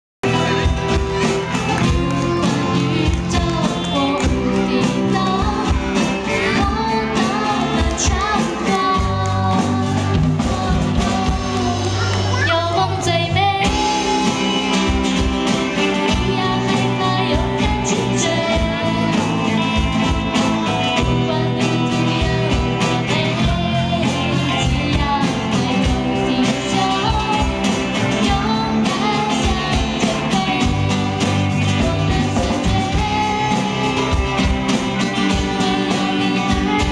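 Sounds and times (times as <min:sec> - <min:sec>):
acoustic guitar: 0:00.2 - 0:36.9
electric bass: 0:00.2 - 0:36.9
woman singing into a microphone: 0:01.8 - 0:36.9.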